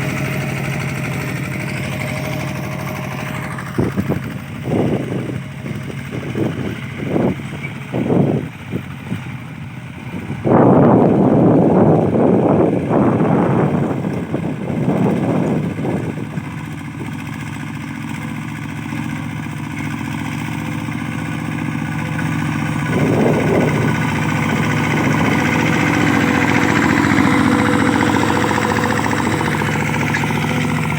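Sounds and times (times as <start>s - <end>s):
small tractor engine running: 0.0s - 30.9s.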